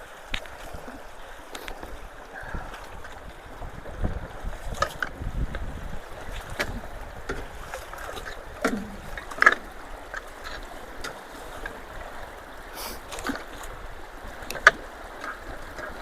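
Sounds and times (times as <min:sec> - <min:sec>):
water running through culvert: 0:00.0 - 0:16.0.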